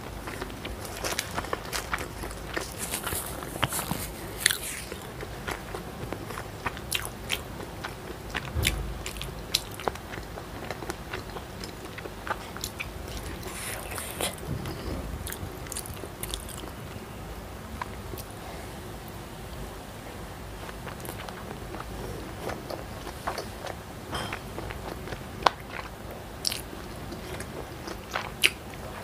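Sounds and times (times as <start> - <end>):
person chewing food: 0.1 - 17.0, 20.6 - 29.0.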